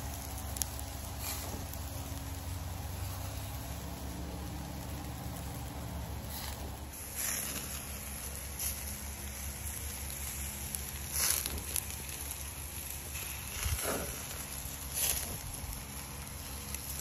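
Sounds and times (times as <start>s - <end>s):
fire popping and crackling: 0.0s - 17.0s
low rumble: 0.0s - 17.0s
steaks sizzling on grill: 0.0s - 17.0s.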